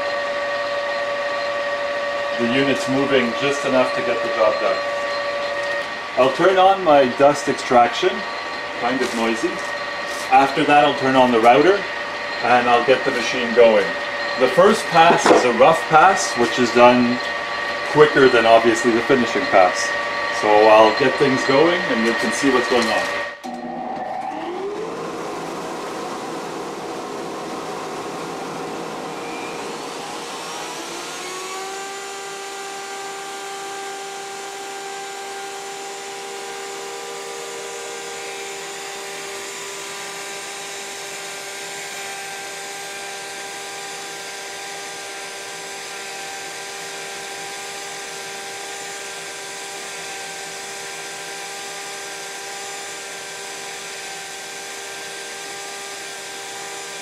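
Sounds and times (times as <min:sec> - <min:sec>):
dust collector whine: 0:00.0 - 0:57.0
wood router whine: 0:00.0 - 0:57.0.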